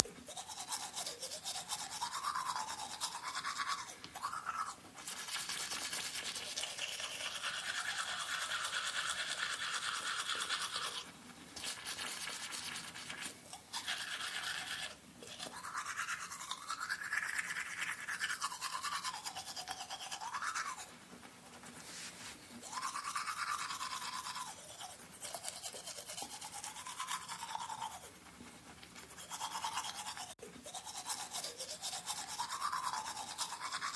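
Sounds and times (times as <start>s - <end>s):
toothbrush scrubbing teeth: 0.0s - 33.9s.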